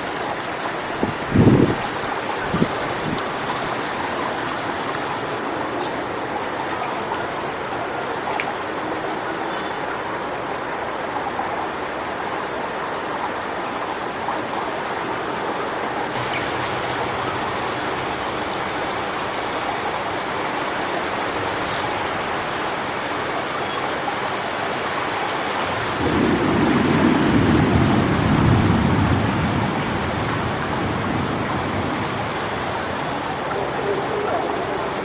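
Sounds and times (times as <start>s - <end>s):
wind rushing through palm fronds: 0.0s - 35.0s.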